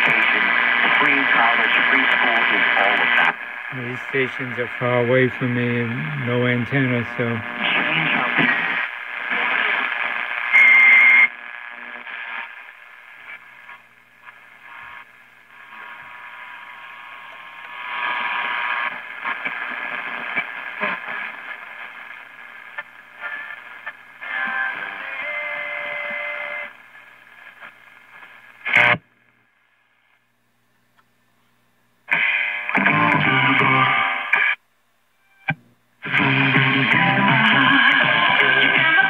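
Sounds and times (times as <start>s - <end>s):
distant radio stations: 0.0s - 29.0s, 36.0s - 39.0s
radio static and hiss: 0.0s - 34.6s, 35.2s - 39.0s.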